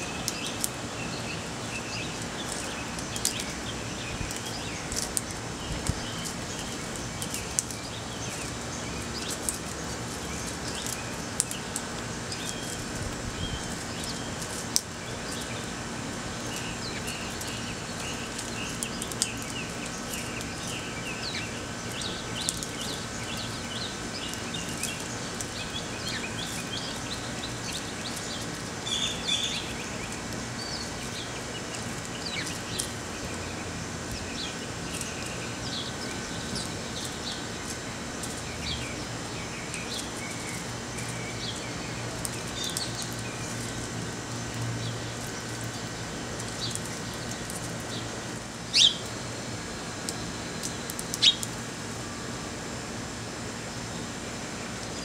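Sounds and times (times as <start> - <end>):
sparrows chirping: 0.0 - 55.0
steady background hum: 0.0 - 55.0.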